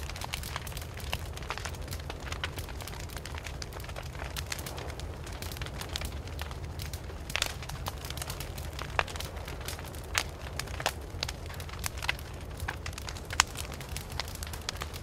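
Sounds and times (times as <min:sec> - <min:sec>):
burning wood crackling and popping: 0:00.0 - 0:15.0
campfire rumbling: 0:00.0 - 0:15.0.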